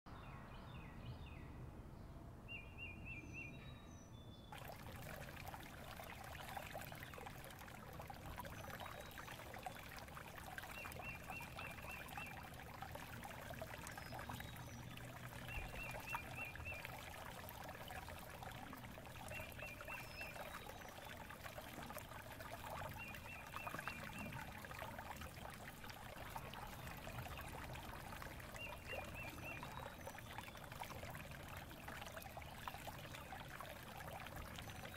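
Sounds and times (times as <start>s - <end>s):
water trickling: 4.5s - 34.9s.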